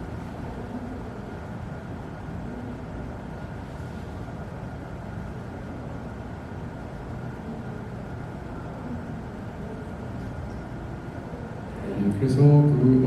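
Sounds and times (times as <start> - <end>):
low room hum and hiss: 0.0 - 13.0.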